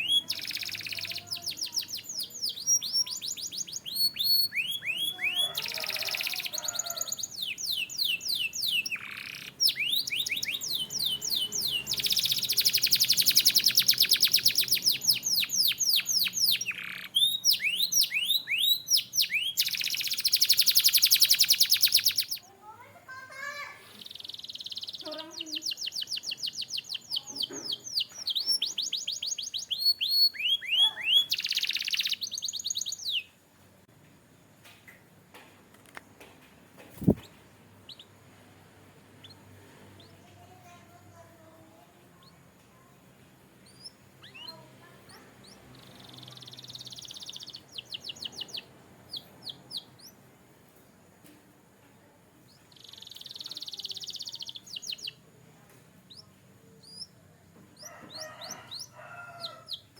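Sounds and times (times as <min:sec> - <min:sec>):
canary singing: 0:00.0 - 0:33.4, 0:37.0 - 0:38.3, 0:39.1 - 0:42.9, 0:43.5 - 0:50.3, 0:52.5 - 0:55.4, 0:56.0 - 0:59.9.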